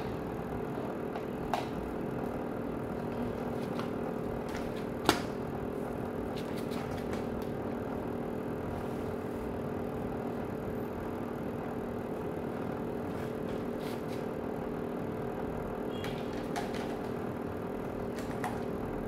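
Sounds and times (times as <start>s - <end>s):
steady droning hum: 0.0s - 19.0s.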